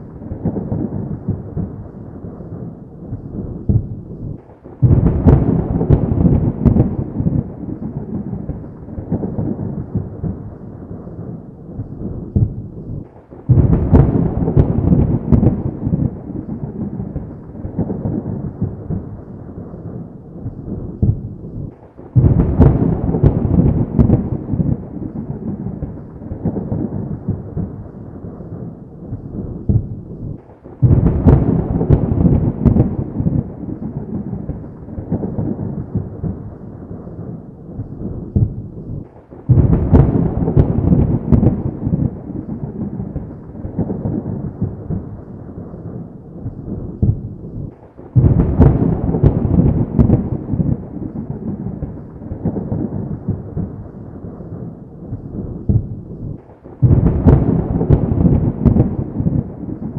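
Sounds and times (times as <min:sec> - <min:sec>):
thunder claps and rumble: 0:00.0 - 0:59.9.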